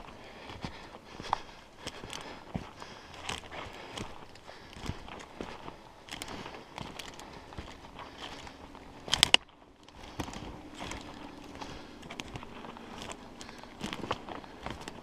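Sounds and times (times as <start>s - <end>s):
footsteps crackling twigs and leaves: 0.0s - 15.0s.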